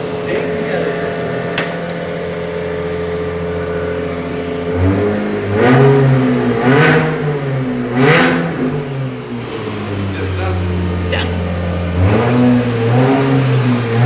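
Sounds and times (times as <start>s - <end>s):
van engine idling and revving: 0.0s - 14.0s.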